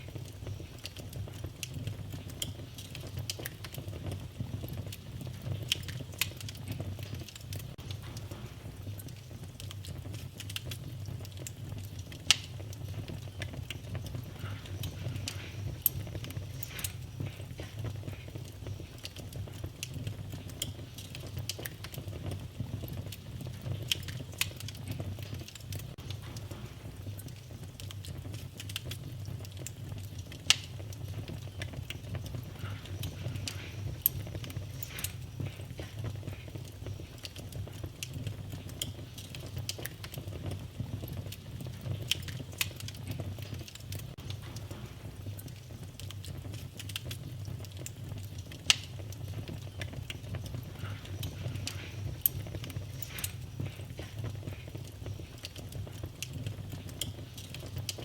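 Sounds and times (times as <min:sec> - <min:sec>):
fire crackling in fireplace: 0:00.0 - 0:58.0
sharp pops of fire: 0:00.0 - 0:58.0.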